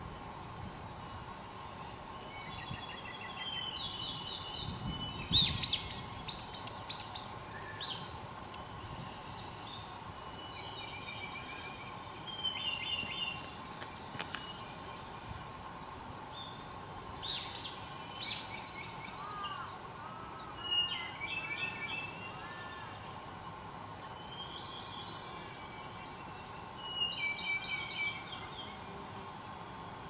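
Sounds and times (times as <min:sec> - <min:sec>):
faint steady hum: 0:00.0 - 0:30.0
wild songbirds singing: 0:00.6 - 0:30.0.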